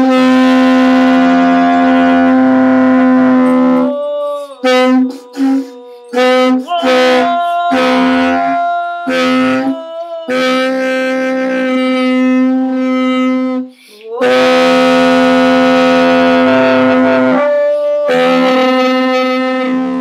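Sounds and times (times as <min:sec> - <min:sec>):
animal horn blowing: 0:00.0 - 0:20.0
woman singing wordlessly: 0:00.0 - 0:20.0.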